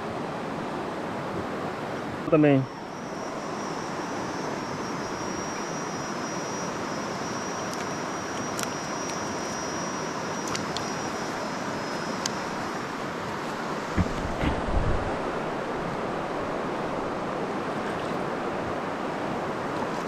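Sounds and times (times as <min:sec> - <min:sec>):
river water flowing: 0:00.0 - 0:20.0
thin high whine: 0:01.5 - 0:20.0.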